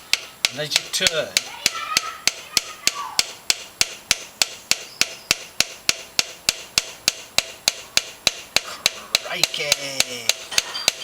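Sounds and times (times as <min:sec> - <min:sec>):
hammer tapping screwdriver bit: 0:00.0 - 0:11.0.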